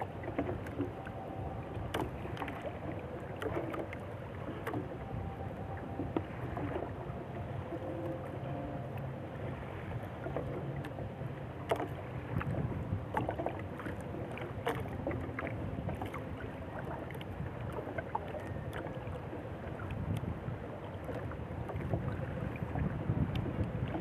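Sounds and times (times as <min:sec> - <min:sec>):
water sloshing against boat hull: 0:00.0 - 0:24.0
wind on microphone: 0:00.0 - 0:24.0.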